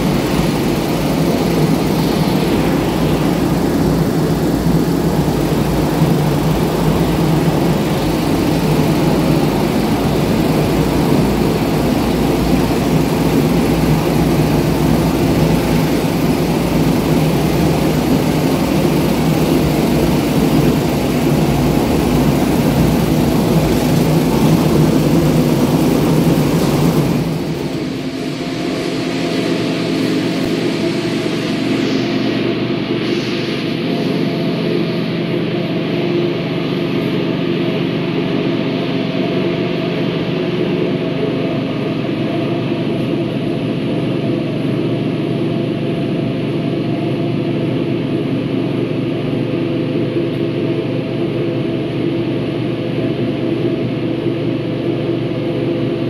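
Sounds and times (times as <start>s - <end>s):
carpet-washing machine droning: 0.0s - 56.0s.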